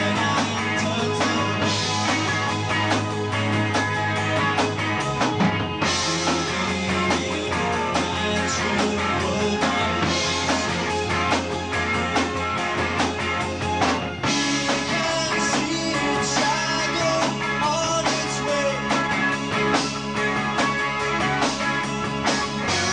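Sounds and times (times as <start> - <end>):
rock band playing live: 0.0 - 22.9.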